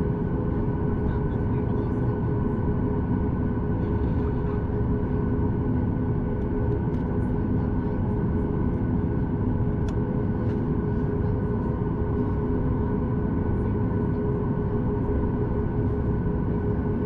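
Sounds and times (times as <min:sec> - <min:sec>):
steady drone of engine and airflow: 0:00.0 - 0:17.0.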